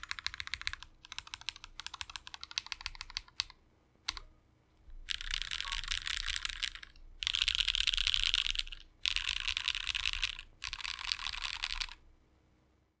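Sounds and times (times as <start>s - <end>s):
fast typing on mechanical keyboard: 0.0s - 3.5s, 5.0s - 12.0s.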